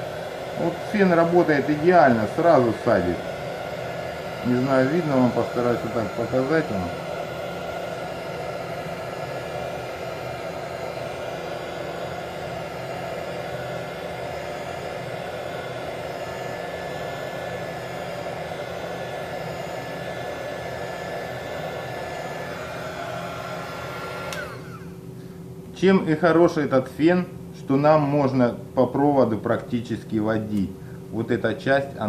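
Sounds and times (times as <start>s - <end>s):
hot air gun fan whirring: 0.0s - 32.0s.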